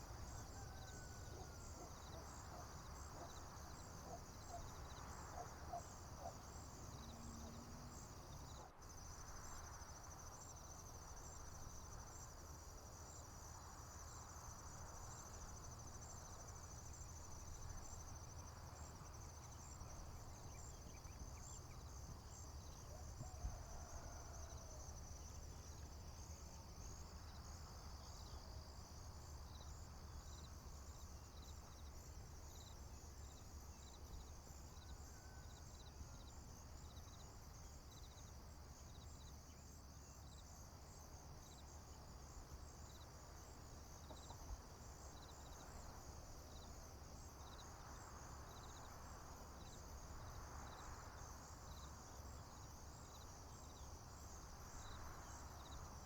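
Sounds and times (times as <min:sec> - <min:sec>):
insects chirping chorus: 0:00.0 - 0:56.0.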